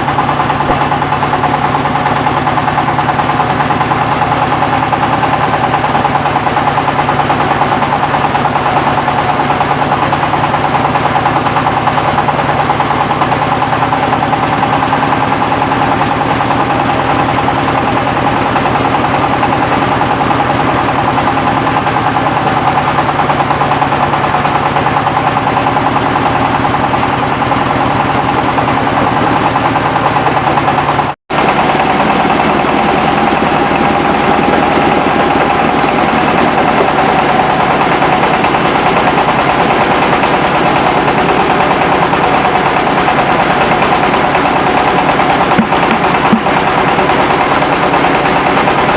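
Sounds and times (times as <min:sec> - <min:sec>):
rice milling machine running: 0:00.0 - 0:48.9.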